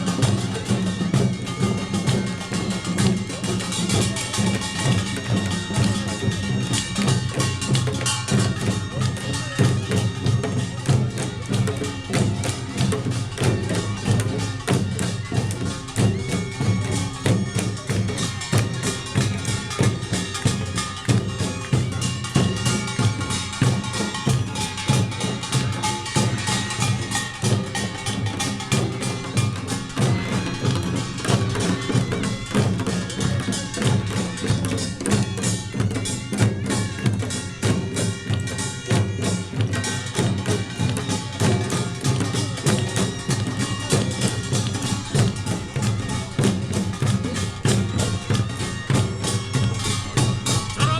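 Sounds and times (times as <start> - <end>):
drums in driving rhythm: 0.0 - 50.9
small gongs clanging: 0.1 - 50.9.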